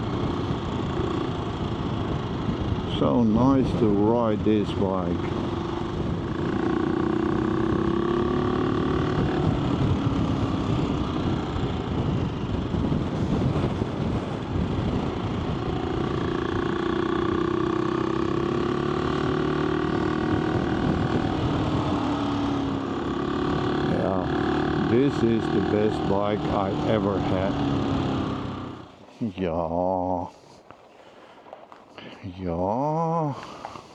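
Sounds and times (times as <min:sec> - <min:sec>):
wind rumble on microphone: 0:00.0 - 0:29.4
motorcycle engine cruising: 0:00.0 - 0:33.9.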